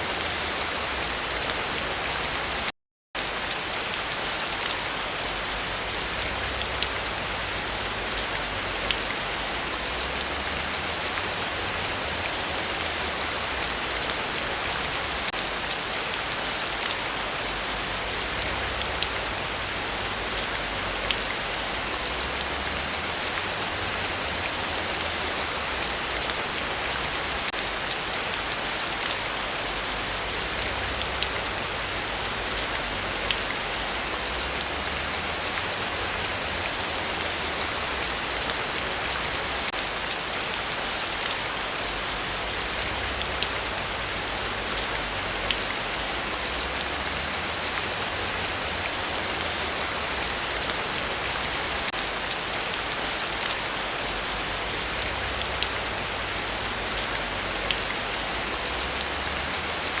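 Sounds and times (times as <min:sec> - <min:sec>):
heavy rain falling: 0:00.0 - 1:00.0
raindrops ticking on surfaces: 0:00.0 - 1:00.0.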